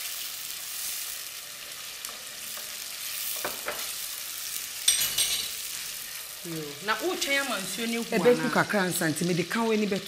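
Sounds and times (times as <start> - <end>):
tomato sizzling in a pot: 0.0 - 10.0.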